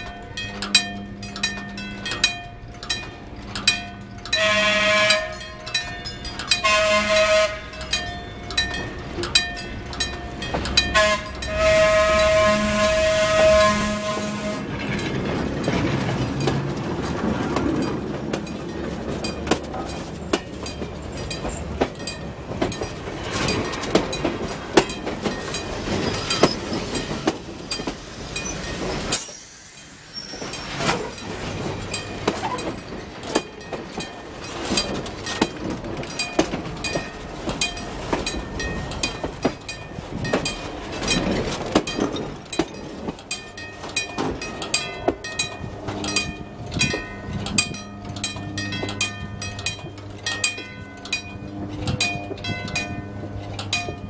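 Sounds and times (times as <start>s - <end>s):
train wheels rolling on rail: 0.0s - 54.0s
wheels clicking and clacking: 0.0s - 54.0s.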